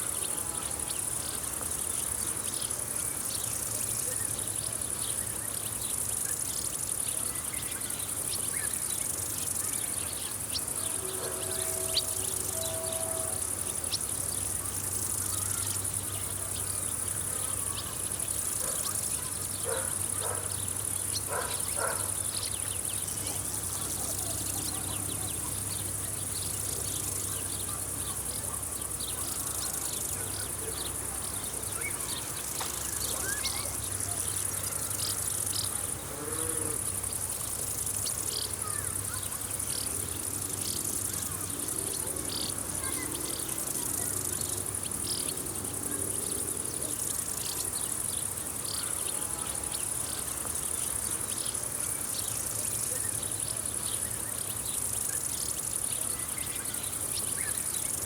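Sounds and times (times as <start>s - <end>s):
crickets trilling: 0.0s - 58.0s
insect chirps: 0.0s - 58.0s.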